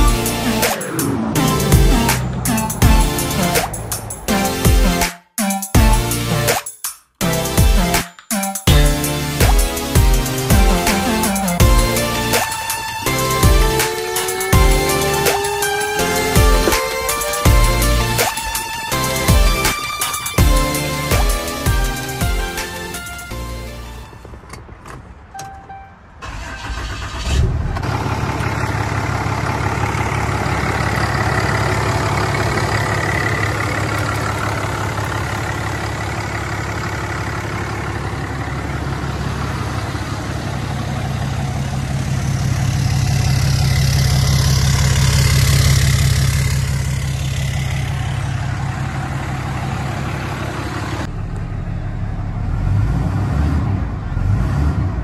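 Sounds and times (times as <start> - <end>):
diesel engine starting and idling: 0.0 - 5.1, 7.2 - 8.0, 8.7 - 55.0.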